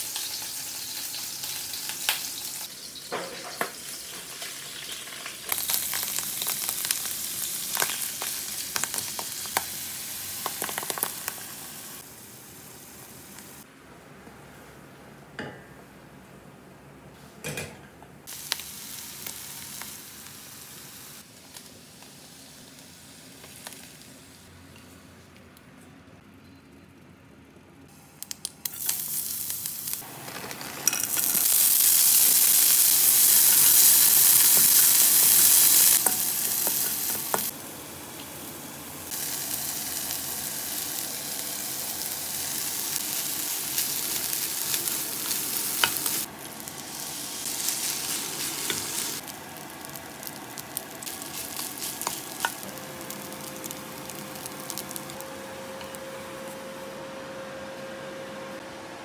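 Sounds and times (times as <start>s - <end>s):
oil sizzling loudly: 0.0s - 13.7s, 18.3s - 24.5s, 28.6s - 56.4s.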